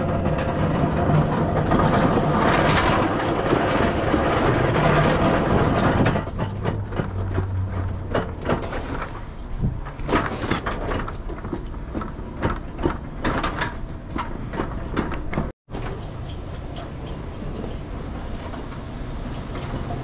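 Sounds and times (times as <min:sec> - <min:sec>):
clicks and knocks: 0:00.0 - 0:18.7
pallet jack wheels rattling: 0:00.0 - 0:20.0.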